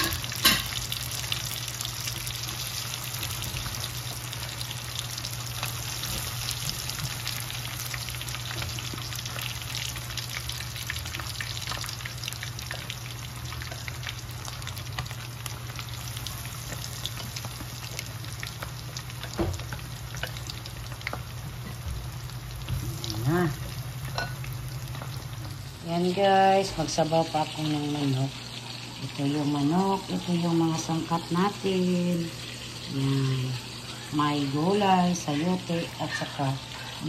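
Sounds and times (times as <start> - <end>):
chicken sizzling in hot oil: 0.0 - 37.0.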